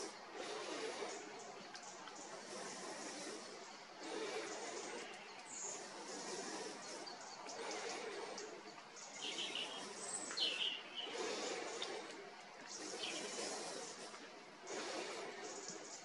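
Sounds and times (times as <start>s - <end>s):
faint outdoor background noise: 0.0s - 16.0s.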